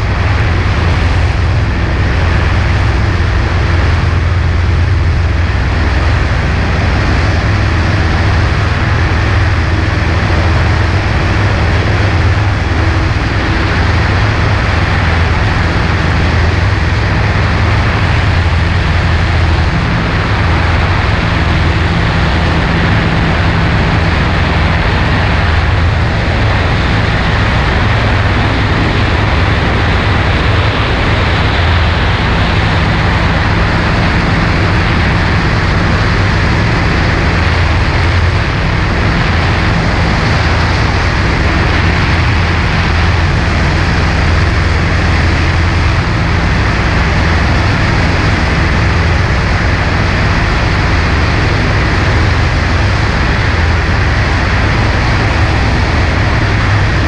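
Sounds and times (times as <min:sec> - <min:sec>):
propeller plane engine running: 0:00.0 - 0:57.0
rush of air noise: 0:00.0 - 0:57.0.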